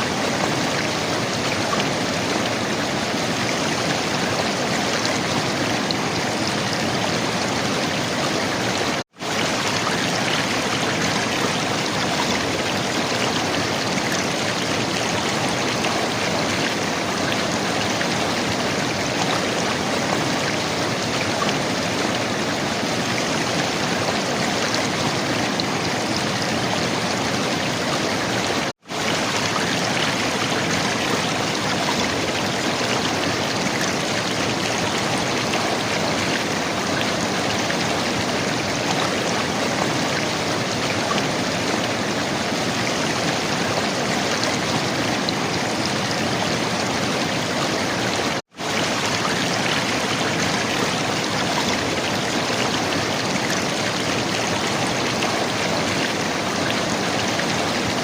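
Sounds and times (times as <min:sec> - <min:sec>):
river water flowing and gurgling: 0:00.0 - 0:58.0.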